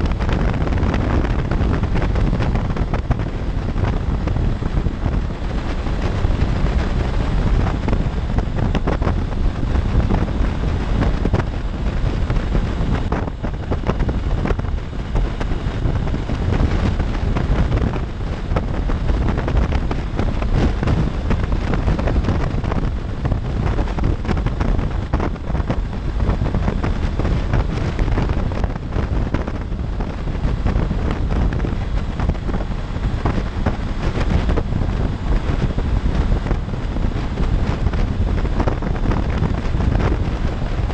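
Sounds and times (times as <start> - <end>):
motorcycle road and engine rumble: 0.0 - 40.9
wind rushing over microphone: 0.0 - 40.9.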